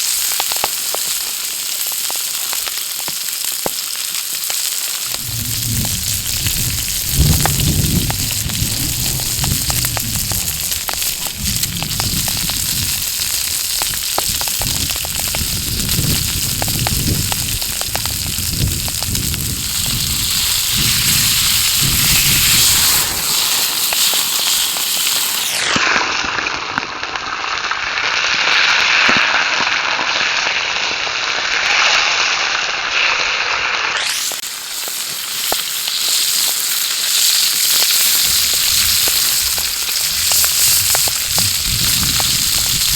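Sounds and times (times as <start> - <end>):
campfire crackling and popping: 0.0 - 42.9
steak sizzling: 0.0 - 42.9.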